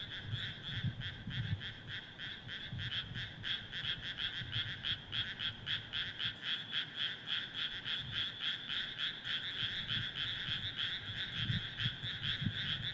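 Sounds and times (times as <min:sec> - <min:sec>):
frogs croaking in chorus: 0:00.0 - 0:12.9.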